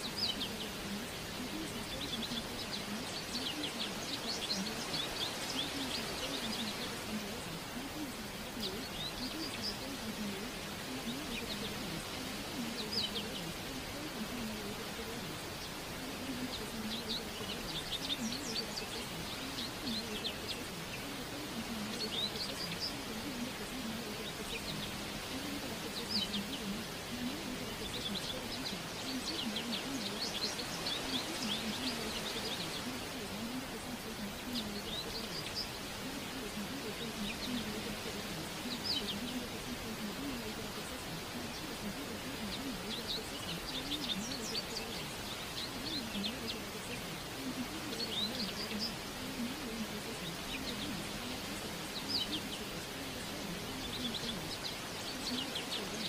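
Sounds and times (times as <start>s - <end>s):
birds chirping: 0.0s - 56.0s
faint muffled voice: 0.0s - 56.0s
steady hiss: 0.0s - 56.0s.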